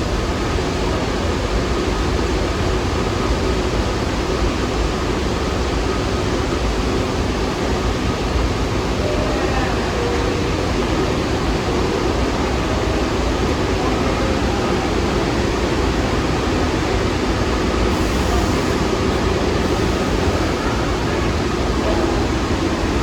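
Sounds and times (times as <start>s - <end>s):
subway train running: 0.0s - 23.0s.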